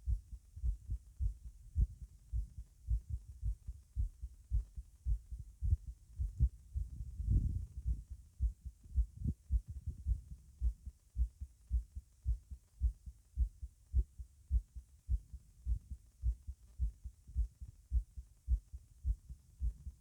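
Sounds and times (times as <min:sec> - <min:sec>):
heartbeat thumps: 0:00.0 - 0:20.0.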